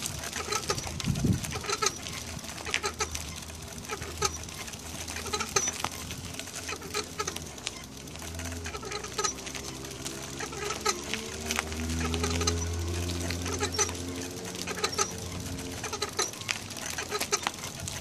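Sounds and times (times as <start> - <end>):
bike wheel squeaking: 0.0 - 18.0.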